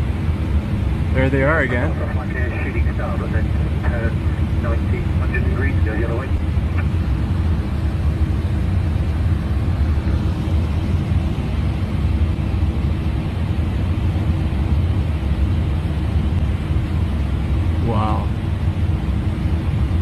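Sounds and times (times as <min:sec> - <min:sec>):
airliner cockpit engine rumble: 0:00.0 - 0:20.0
faint steady hum: 0:00.1 - 0:20.0.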